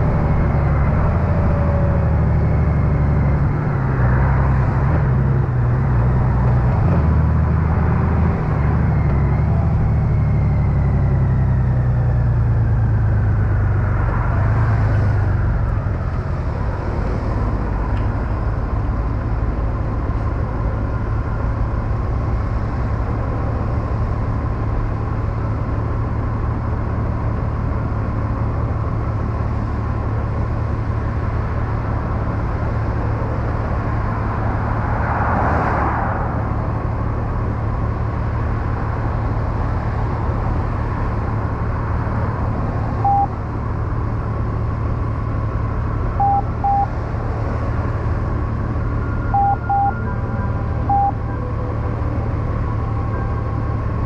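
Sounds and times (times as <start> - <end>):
motorcycle engine slowing with whine: 0.0 - 35.3, 35.9 - 54.0.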